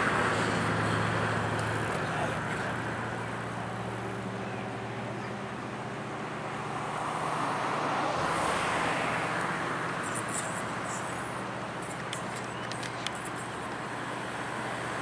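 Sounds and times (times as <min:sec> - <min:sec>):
broad rush of noise: 0:00.0 - 0:15.0
ship engine hum: 0:00.0 - 0:15.0.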